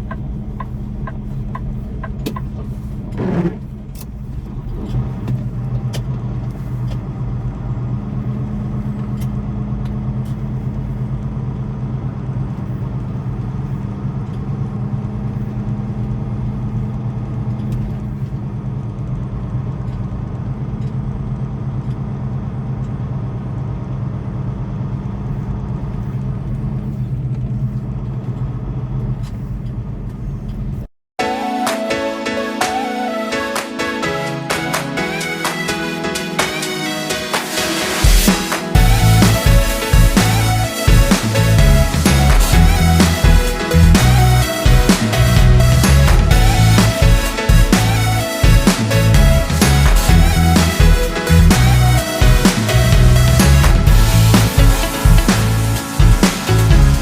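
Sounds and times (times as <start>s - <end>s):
diesel truck engine running: 0.0s - 57.0s
road noise: 0.0s - 57.0s.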